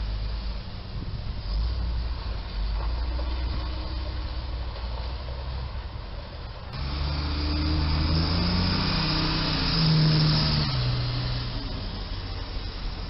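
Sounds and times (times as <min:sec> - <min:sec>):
truck diesel engine: 0:00.0 - 0:13.0.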